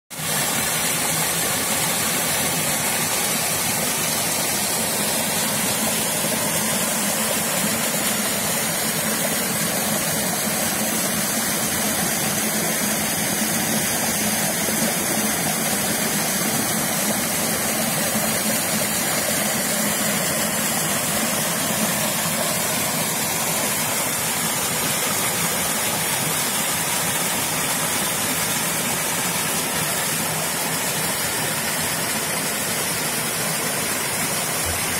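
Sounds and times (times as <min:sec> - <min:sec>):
waterfall rushing over rocks: 0:00.1 - 0:34.9.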